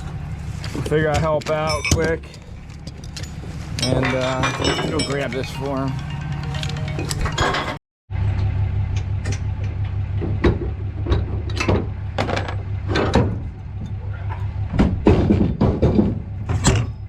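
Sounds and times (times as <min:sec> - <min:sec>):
vehicle engine running: 0:00.0 - 0:17.0
sharp clanks or knocks: 0:00.8 - 0:07.8, 0:09.2 - 0:17.0.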